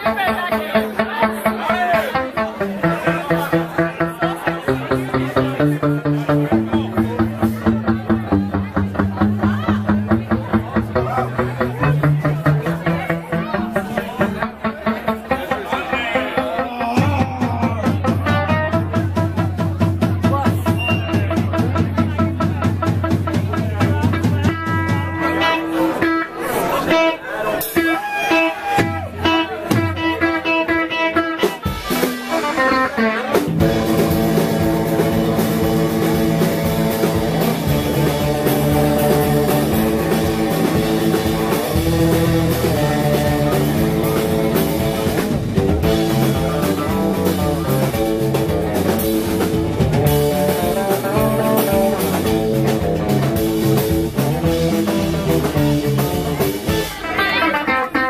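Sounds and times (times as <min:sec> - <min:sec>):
reverb-heavy electric guitars: 0:00.0 - 0:58.0
surf rock band playing live: 0:00.0 - 0:58.0.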